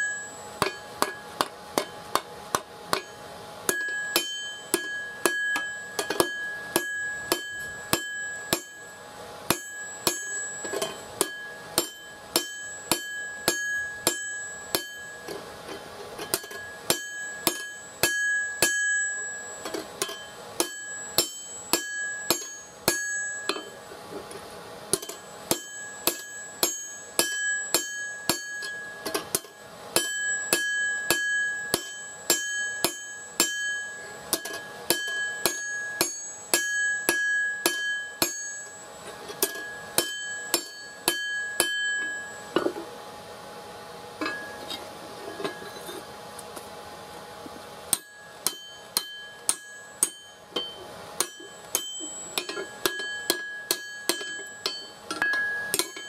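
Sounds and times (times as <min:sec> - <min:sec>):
hammer striking steel on anvil: 0:00.0 - 0:23.9, 0:24.9 - 0:42.9, 0:44.2 - 0:46.1, 0:47.9 - 0:56.0.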